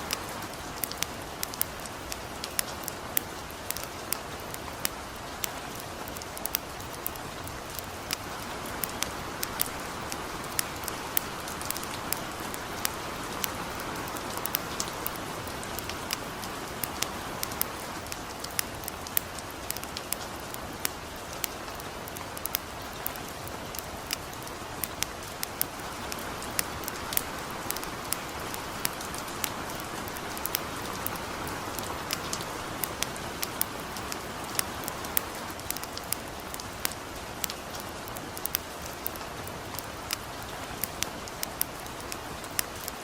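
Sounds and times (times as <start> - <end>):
campfire crackling and popping: 0.0 - 43.0
light rain hissing: 0.0 - 43.0.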